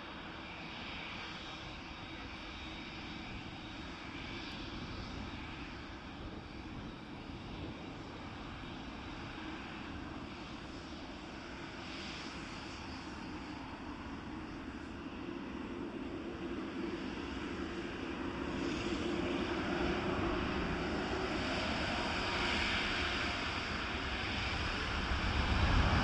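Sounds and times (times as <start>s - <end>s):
airliner engines running: 0.0s - 26.0s.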